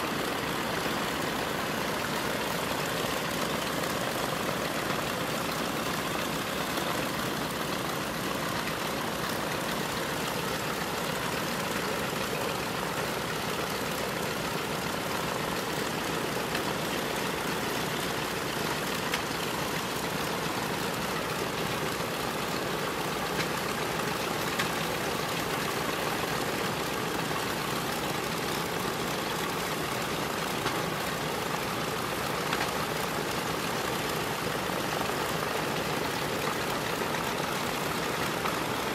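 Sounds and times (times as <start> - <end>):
radial aircraft engines idling: 0.0 - 38.9.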